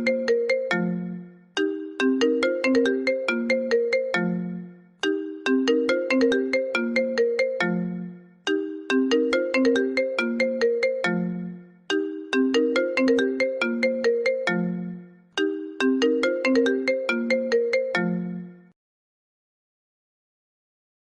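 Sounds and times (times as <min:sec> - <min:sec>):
phone ringtone melody: 0:00.0 - 0:18.7.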